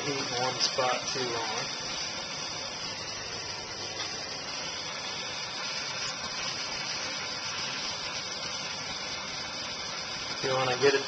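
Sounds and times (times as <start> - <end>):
propane torch hissing: 0.0 - 11.0.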